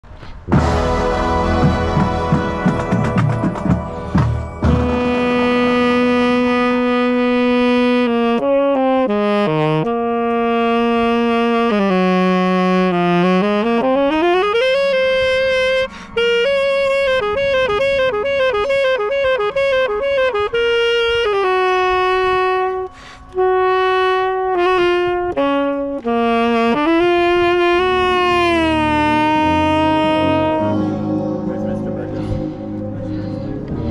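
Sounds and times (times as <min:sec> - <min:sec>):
tenor saxophone solo: 0:04.6 - 0:33.9.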